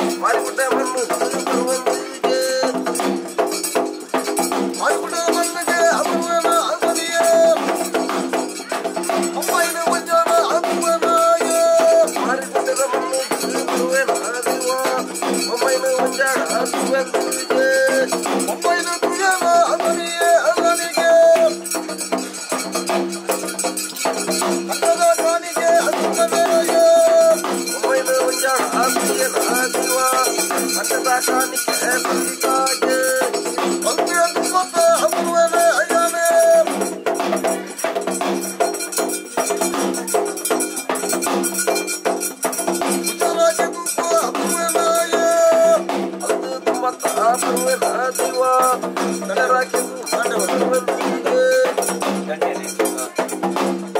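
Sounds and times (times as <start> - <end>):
drums: 0.0 - 53.9
shaking jingling rattle: 0.0 - 53.9.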